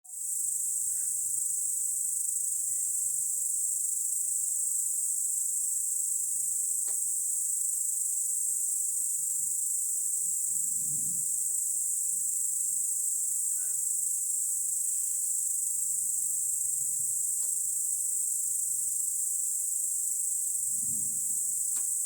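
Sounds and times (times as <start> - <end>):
crickets chirping: 0.1 - 22.0.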